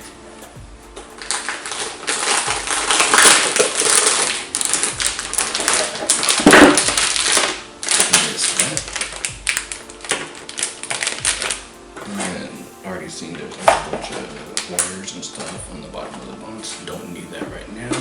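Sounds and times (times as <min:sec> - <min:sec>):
cardboard packaging rustling: 0:01.1 - 0:16.5.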